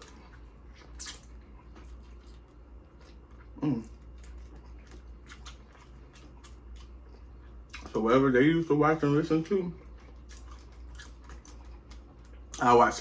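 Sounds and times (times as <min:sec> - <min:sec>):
wet chewing and lip-smacking: 0:00.0 - 0:08.1, 0:09.2 - 0:12.7.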